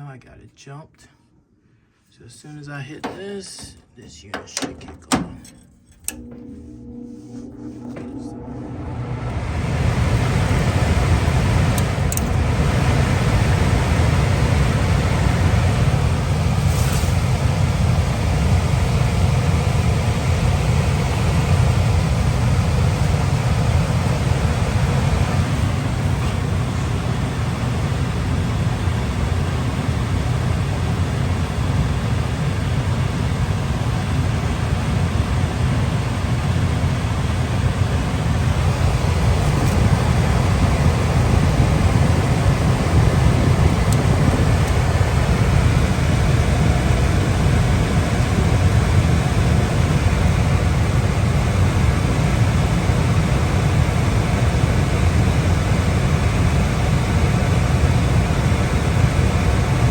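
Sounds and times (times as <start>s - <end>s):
gas furnace running: 2.2s - 59.9s.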